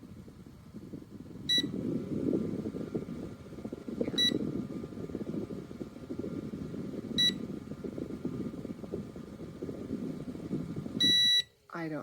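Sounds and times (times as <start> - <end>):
fan air rushing: 0.0 - 12.0.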